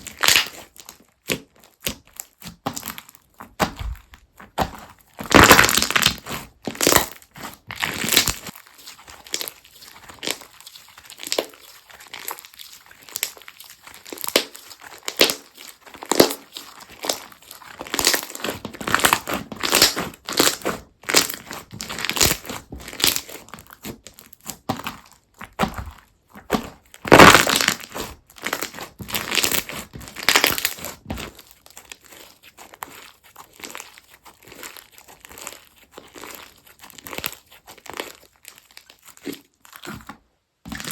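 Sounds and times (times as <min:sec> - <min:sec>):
slime squeezed by hand crackling: 0:00.0 - 0:40.9.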